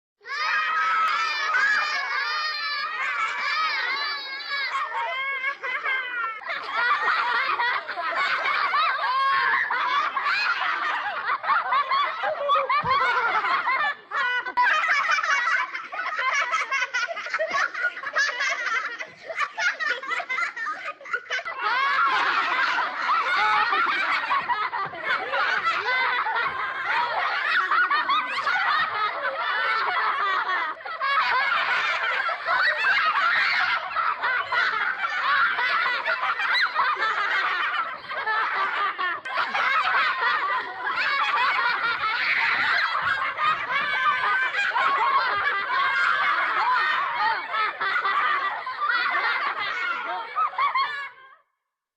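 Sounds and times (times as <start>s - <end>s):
children laughing: 0.2s - 51.5s.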